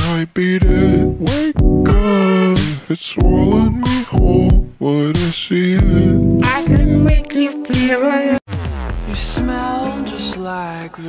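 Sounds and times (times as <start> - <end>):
background music with beat and bass: 0.0 - 10.7.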